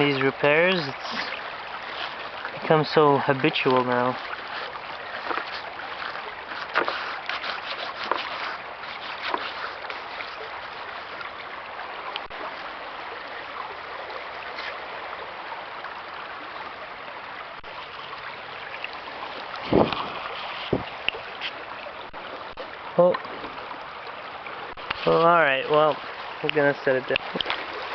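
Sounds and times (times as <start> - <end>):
river water flowing: 0.0 - 27.9.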